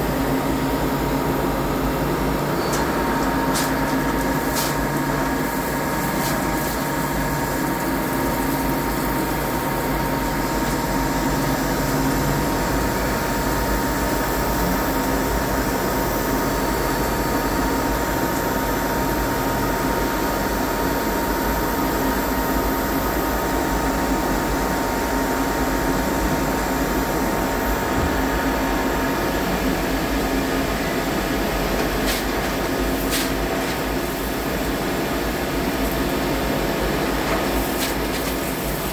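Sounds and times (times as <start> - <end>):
lathe machine hum with whine: 0.0 - 38.9.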